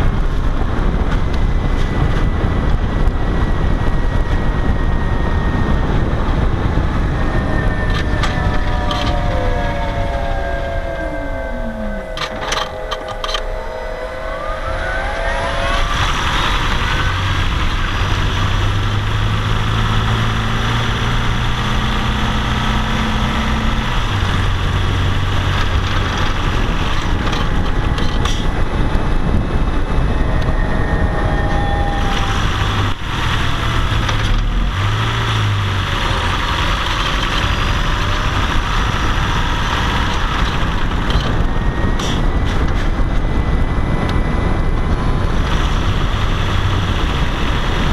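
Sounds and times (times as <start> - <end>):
car engine under load: 0.0 - 47.9
low drone: 0.0 - 47.9
rising whine: 0.0 - 47.9
road and wind noise: 0.0 - 47.9.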